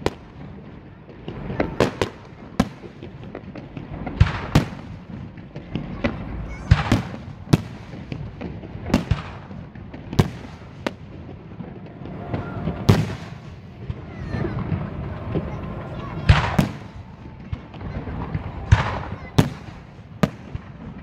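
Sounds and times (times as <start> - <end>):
fireworks bursting with loud bangs: 0.0 - 21.0
fireworks crackling: 0.0 - 21.0.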